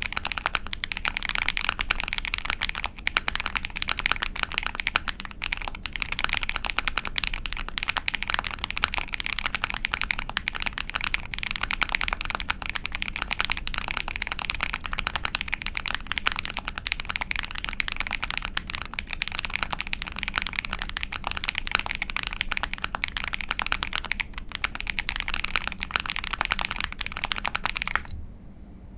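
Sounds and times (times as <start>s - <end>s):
rapid typing on mechanical keyboard: 0.0s - 28.1s.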